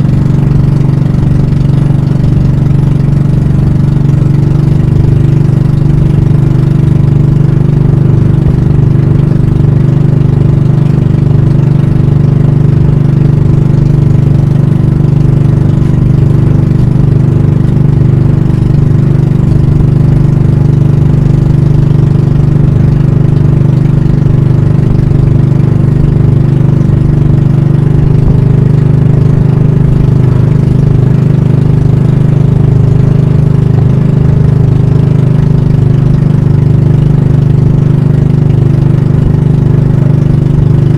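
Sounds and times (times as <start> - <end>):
boat engine running: 0.0 - 40.9.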